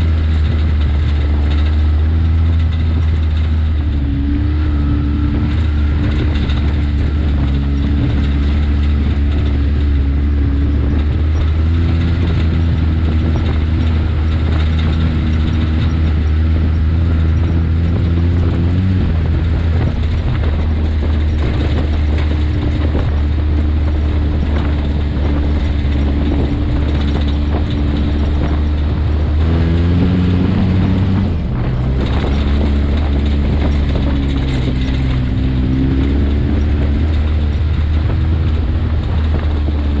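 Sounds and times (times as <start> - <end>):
utility vehicle engine running: 0.0 - 40.0.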